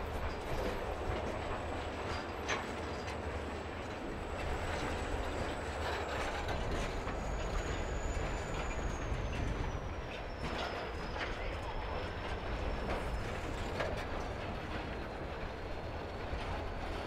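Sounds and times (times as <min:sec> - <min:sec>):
train wheels rumbling on rail: 0:00.0 - 0:17.0
wheels clicking over rail joints: 0:00.0 - 0:17.0.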